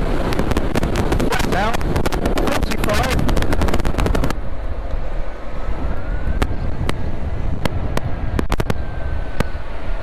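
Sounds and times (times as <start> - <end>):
motorbike road noise: 0.0 - 10.0
wind buffeting microphone: 0.0 - 10.0.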